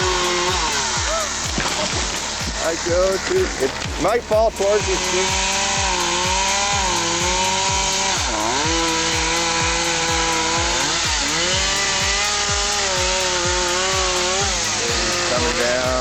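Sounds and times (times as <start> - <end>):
chainsaw cutting at high revs: 0.0 - 16.0
thumping music beat: 0.0 - 16.0.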